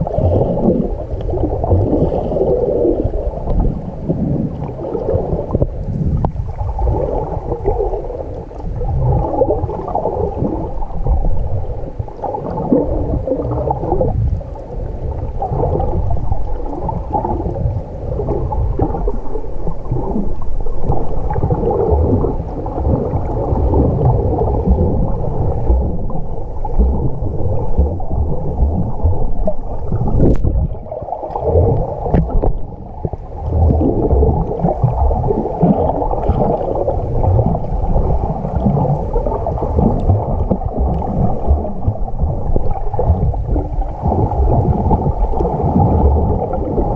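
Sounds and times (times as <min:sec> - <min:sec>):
muffled underwater water gurgling: 0:00.0 - 0:46.9.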